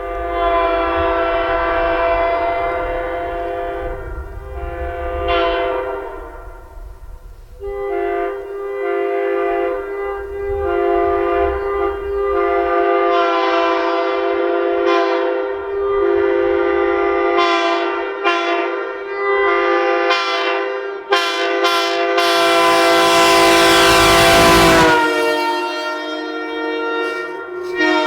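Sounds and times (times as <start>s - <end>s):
air horns sounding: 0.0s - 28.0s.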